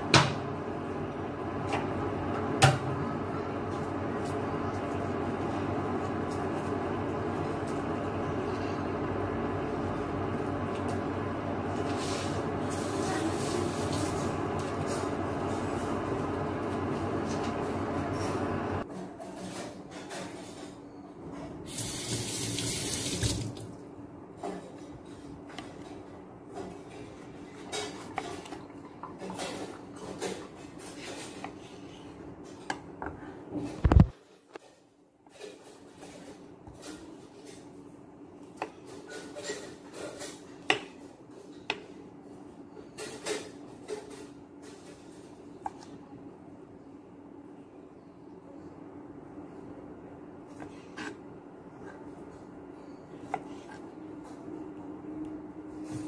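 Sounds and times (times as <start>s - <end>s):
range hood fan whirring: 0.0s - 56.0s.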